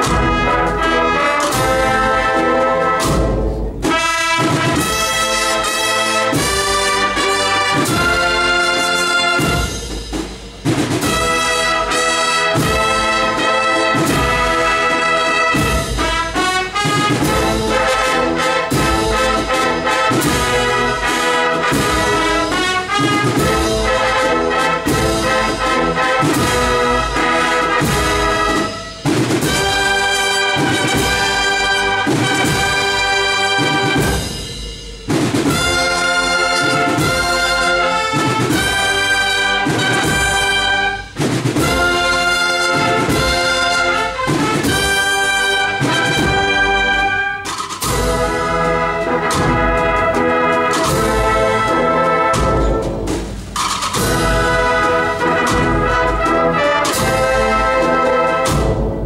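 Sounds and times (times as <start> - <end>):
brass band playing a march: 0.0 - 59.0.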